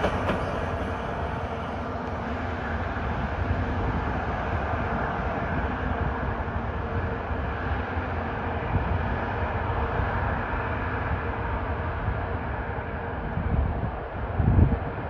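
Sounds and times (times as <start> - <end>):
train rumbling and rolling: 0.0 - 15.0.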